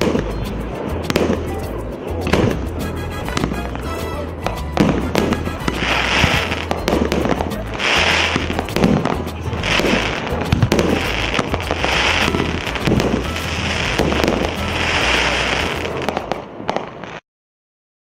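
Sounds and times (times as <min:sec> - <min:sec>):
firework crackling and popping: 0:00.0 - 0:17.2.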